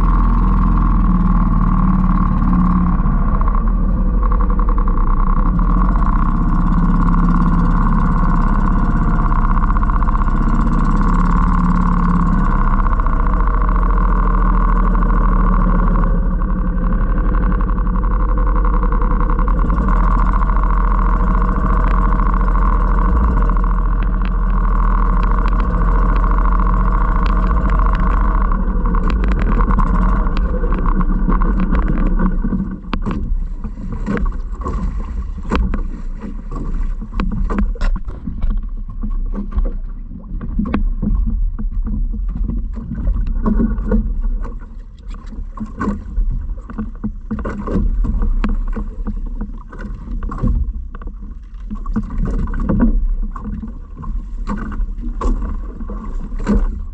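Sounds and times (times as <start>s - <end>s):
boat knocking on water: 0.0s - 56.9s
boat motor running: 0.0s - 56.9s.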